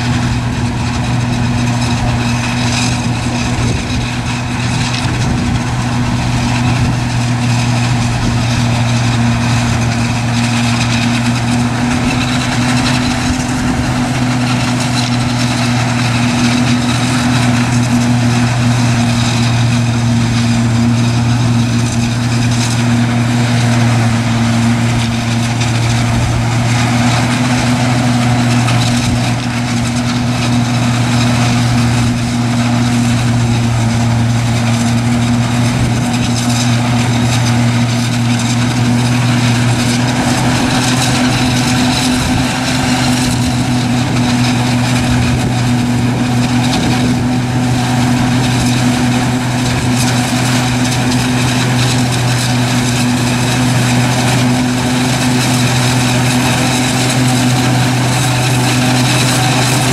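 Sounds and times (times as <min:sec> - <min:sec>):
diesel farm machinery running: 0:00.0 - 0:59.9.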